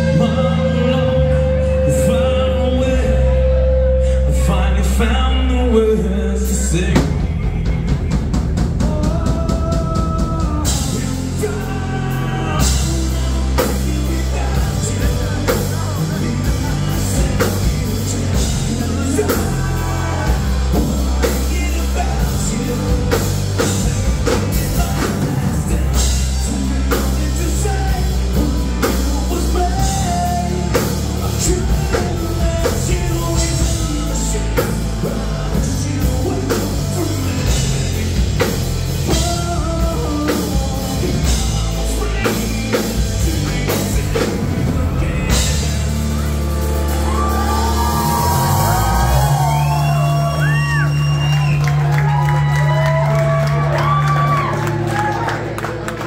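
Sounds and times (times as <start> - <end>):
man singing: 0.0 - 51.9
bass guitar: 0.0 - 56.0
drum kit: 0.0 - 56.0.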